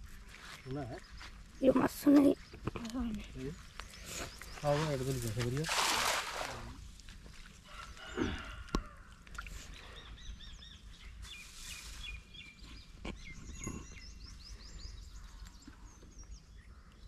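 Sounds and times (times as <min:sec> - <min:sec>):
small birds chirping: 0:00.0 - 0:05.7, 0:07.7 - 0:17.0.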